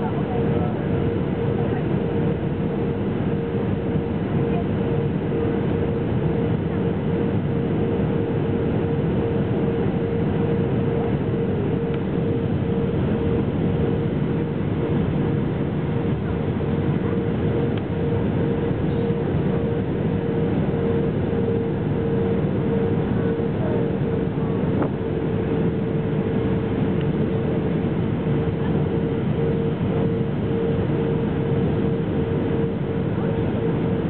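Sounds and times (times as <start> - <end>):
jet engines rumbling: 0.0 - 34.0
mid-pitched hum: 0.0 - 34.0.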